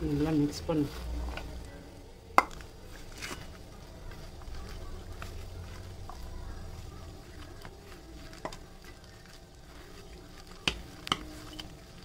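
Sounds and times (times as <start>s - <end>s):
hand squishing batter in bowl: 0.0s - 12.0s.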